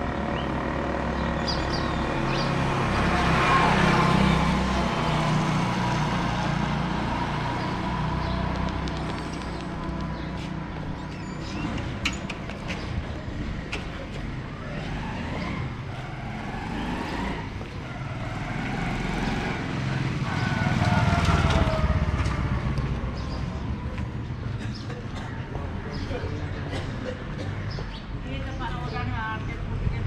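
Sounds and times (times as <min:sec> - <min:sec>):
background traffic rumble: 0:00.0 - 0:30.0
vehicles passing: 0:00.0 - 0:30.0.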